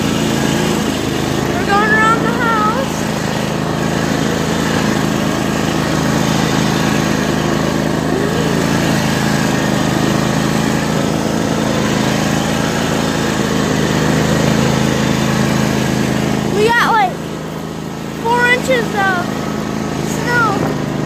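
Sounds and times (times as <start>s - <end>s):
riding mower engine droning: 0.0s - 21.0s.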